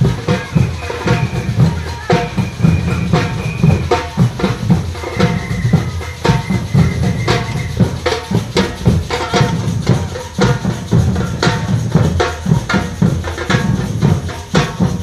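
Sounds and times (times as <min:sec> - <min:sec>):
music with loud drumming: 0:00.0 - 0:15.0.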